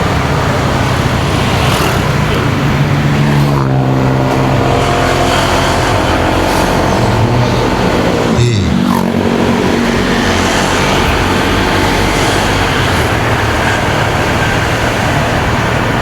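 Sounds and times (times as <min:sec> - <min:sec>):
motorcycle engine: 0:00.0 - 0:16.0
wind and road noise: 0:00.0 - 0:16.0.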